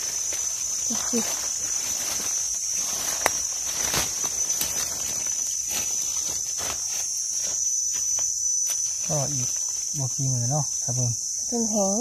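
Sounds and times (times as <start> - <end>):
footsteps crunching dry leaves: 0.0 - 9.9
high-pitched insect drone: 0.0 - 12.0.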